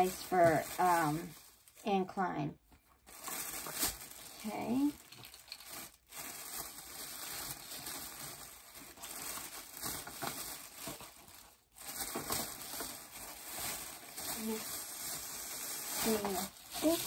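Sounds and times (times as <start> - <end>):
shopping bags rustling and crinkling: 0.0 - 2.2, 2.8 - 17.0.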